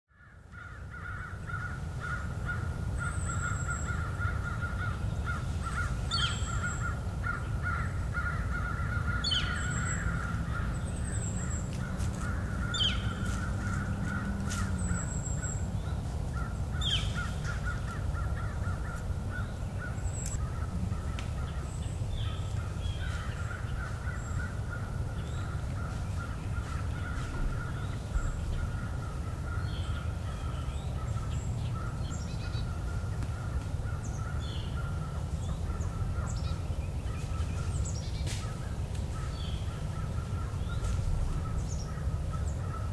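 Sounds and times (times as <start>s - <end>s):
crows cawing: 0.1s - 10.8s, 11.4s - 15.5s, 16.3s - 36.5s
steady pulsing drone: 2.4s - 37.8s.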